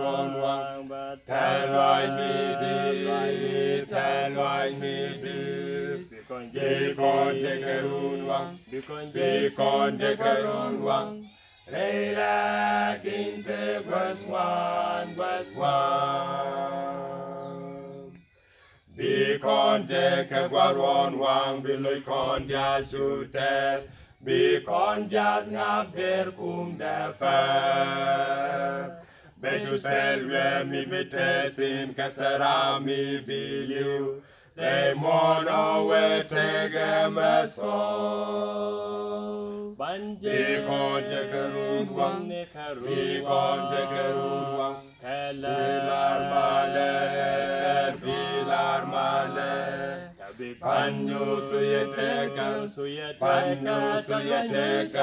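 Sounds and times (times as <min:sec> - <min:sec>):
male vocal quartet singing: 0:00.0 - 0:18.3, 0:18.9 - 0:55.0.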